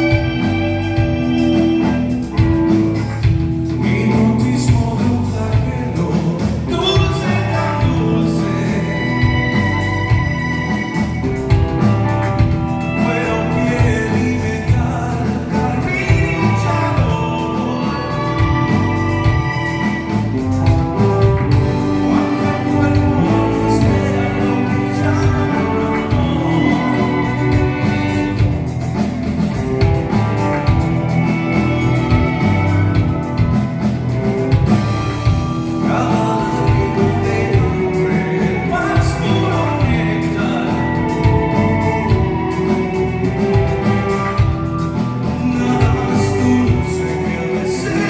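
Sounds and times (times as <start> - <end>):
orchestra playing: 0.0 - 48.0
person singing: 0.0 - 48.0.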